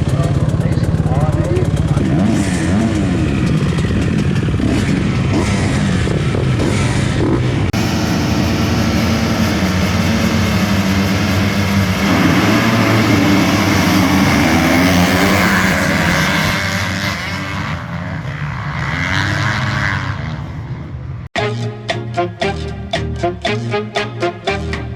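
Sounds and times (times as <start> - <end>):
dirt bike engines droning: 0.0 - 21.3.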